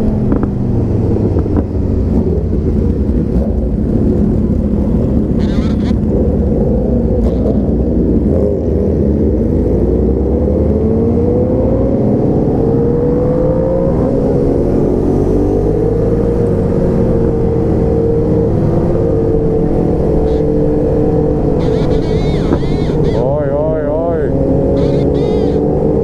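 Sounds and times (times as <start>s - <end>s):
motorcycle engine accelerating: 0.0s - 26.0s
wind rumble on microphone: 0.0s - 26.0s.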